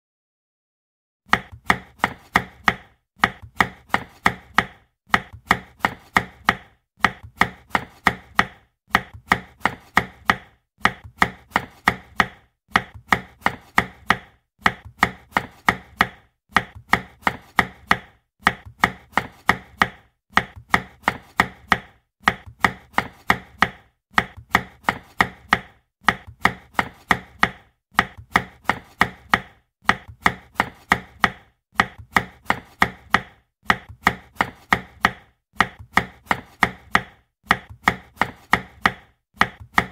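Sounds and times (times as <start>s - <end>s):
knife chopping on cutting board: 1.3s - 39.9s.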